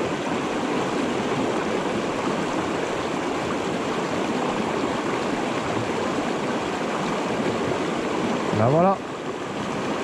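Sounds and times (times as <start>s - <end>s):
river rushing over rocks: 0.0s - 10.0s.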